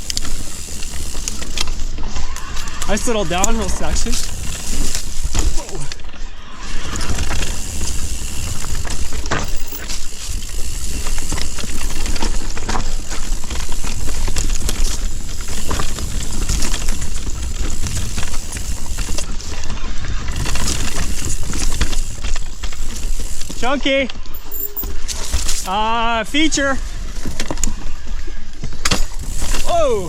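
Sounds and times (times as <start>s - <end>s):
bike tyres rattling over rocks: 0.0s - 30.0s.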